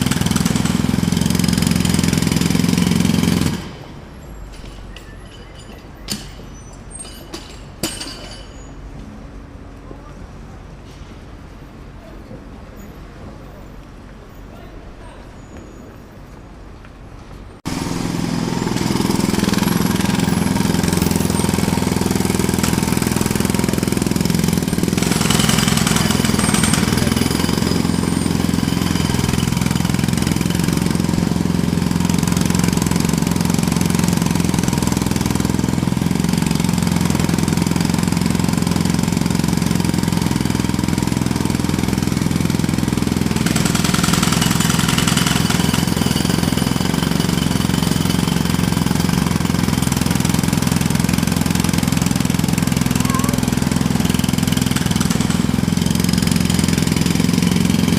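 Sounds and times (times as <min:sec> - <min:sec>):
jackhammer hammering: 0:00.0 - 0:05.1, 0:05.7 - 0:08.7, 0:17.6 - 0:57.9.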